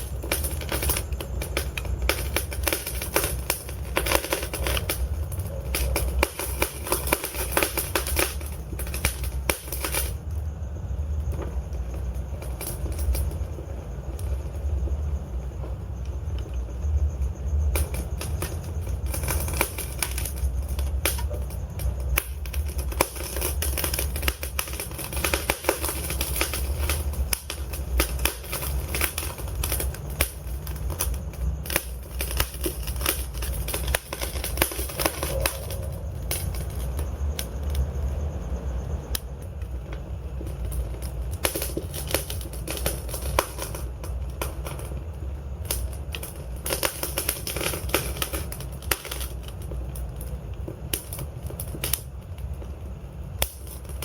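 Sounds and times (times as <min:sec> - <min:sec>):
logs crackling in a fireplace: 0:00.0 - 0:54.0.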